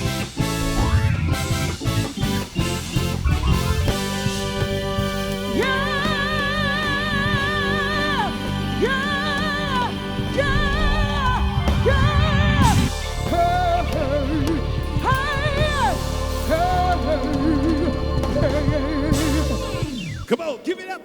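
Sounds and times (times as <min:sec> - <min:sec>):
lead melody with vibrato: 0:00.0 - 0:20.1
soul band playing: 0:00.0 - 0:20.3.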